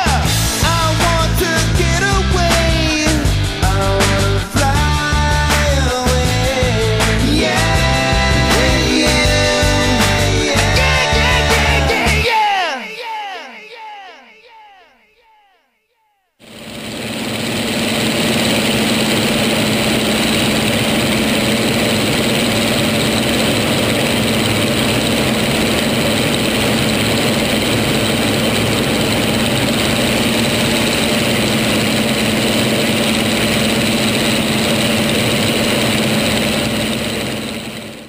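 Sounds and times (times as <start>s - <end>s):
propeller aircraft engine drone: 0.0s - 12.2s, 16.4s - 38.0s.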